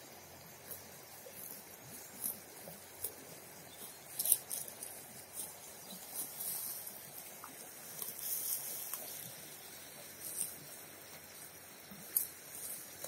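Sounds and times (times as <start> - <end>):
cow tearing and chewing grass: 0.0 - 13.0.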